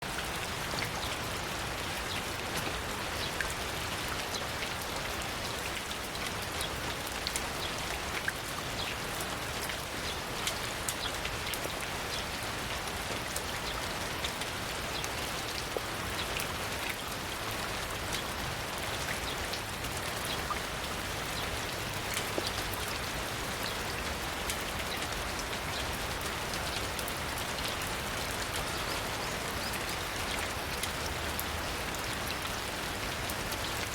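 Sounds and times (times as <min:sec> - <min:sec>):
rain falling: 0:00.0 - 0:33.9
raindrops ticking on a surface: 0:00.0 - 0:33.9.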